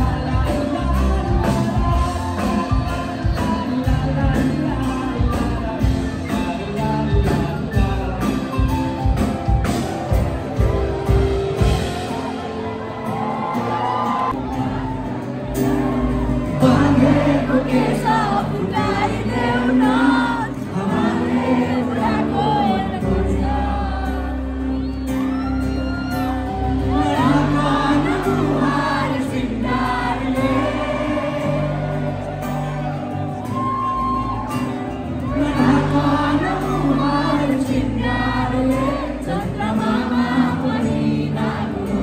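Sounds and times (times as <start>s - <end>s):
crowd singing along: 0.0s - 42.0s
lead vocal singing: 0.0s - 42.0s
live band playing: 0.0s - 42.0s.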